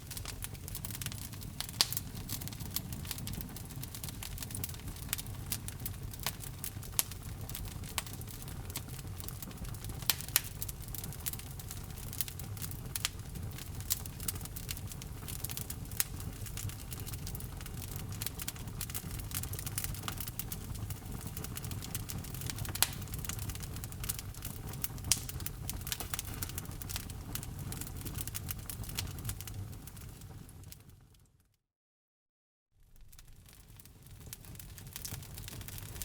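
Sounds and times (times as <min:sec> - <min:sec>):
fireplace fire crackling: 0:00.0 - 0:31.2, 0:32.8 - 0:36.0.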